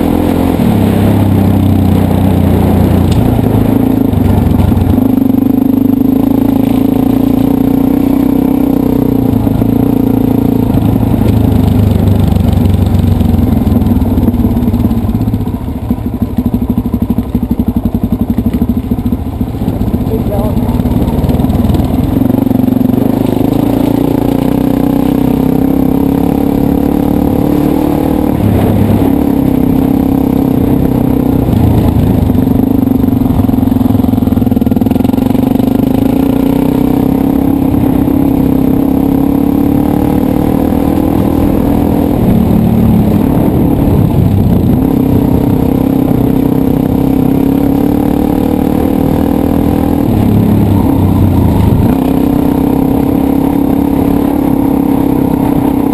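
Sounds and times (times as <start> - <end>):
dirt bike engine revving: 0.0 - 15.0, 18.9 - 55.9.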